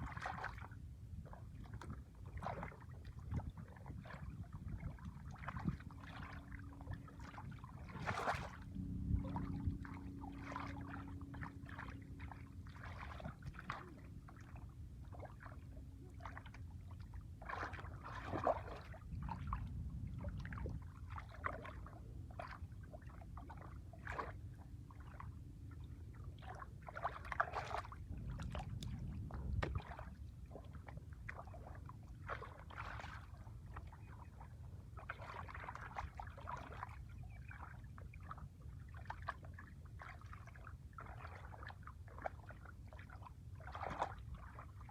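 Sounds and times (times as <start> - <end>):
muddy water splashing: 0.0 - 24.4, 26.3 - 44.9
low steady rumble: 0.0 - 44.9.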